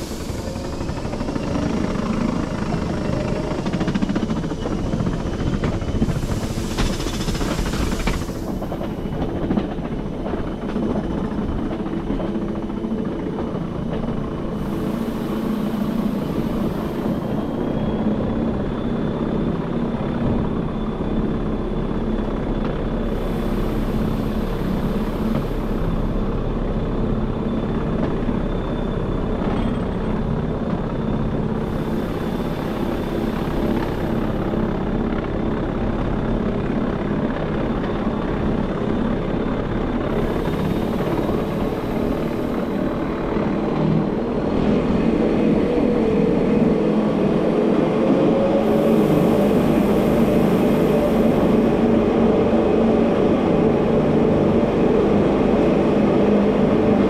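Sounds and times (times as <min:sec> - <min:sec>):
high-pitched whine: 0:00.0 - 0:57.0
railcar motors and gearing drone: 0:00.0 - 0:57.0.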